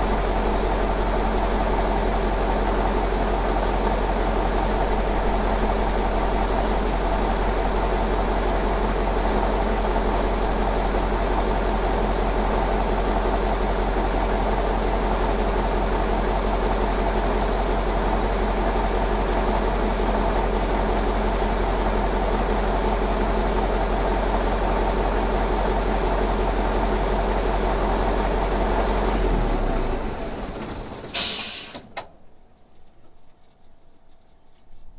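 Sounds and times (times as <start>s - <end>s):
diesel car engine idling: 0.0s - 31.8s.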